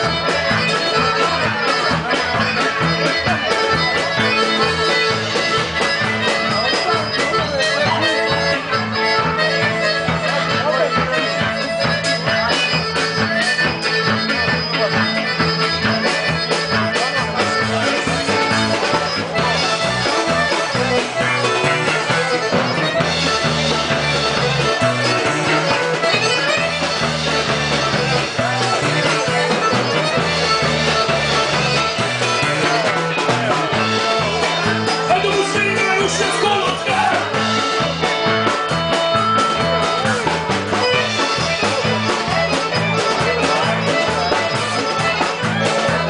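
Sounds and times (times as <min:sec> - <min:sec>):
guitar: 0:00.0 - 0:46.0
live folk dance band: 0:00.0 - 0:46.0
repeating bass line: 0:00.0 - 0:46.0.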